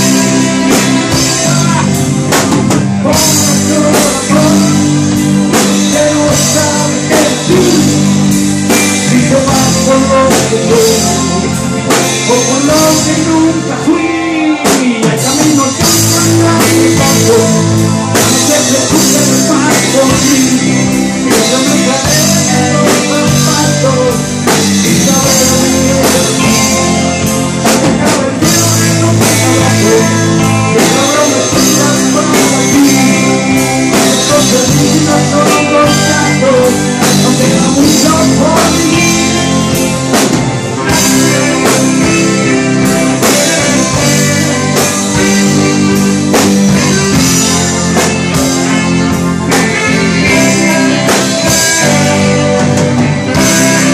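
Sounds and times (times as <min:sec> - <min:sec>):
live pop-rock band: 0:00.0 - 0:53.9
person singing lead vocal: 0:00.0 - 0:53.9.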